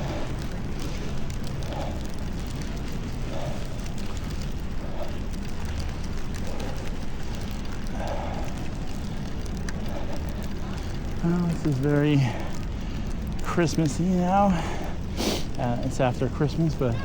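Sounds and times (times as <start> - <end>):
tyres on snowy street: 0.0 - 17.0.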